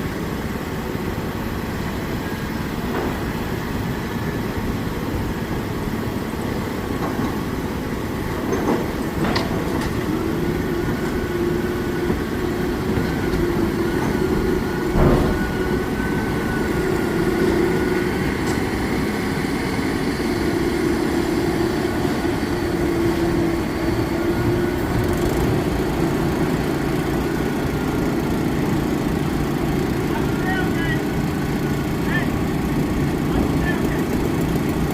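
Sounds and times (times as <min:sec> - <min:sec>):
diesel construction machinery running: 0:00.0 - 0:34.9.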